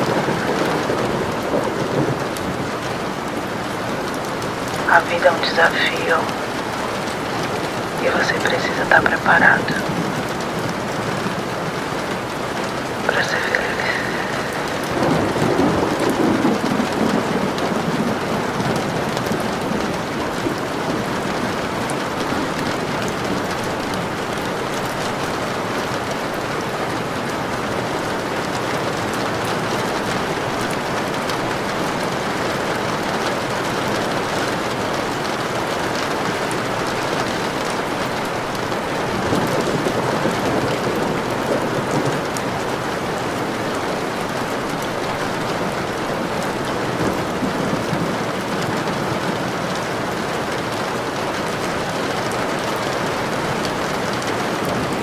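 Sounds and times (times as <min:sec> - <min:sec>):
steady rain falling: 0:00.0 - 0:55.0
thunder rumbling: 0:00.0 - 0:55.0.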